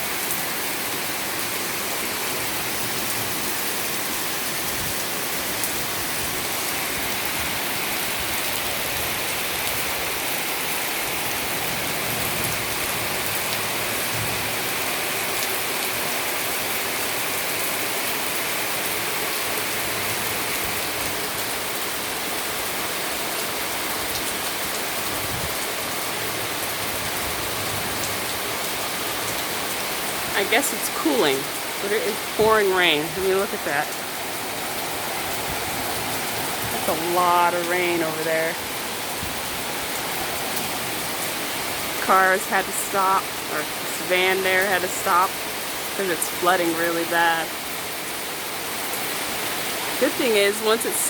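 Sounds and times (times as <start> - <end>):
heavy rain drumming on surfaces: 0.0 - 51.0.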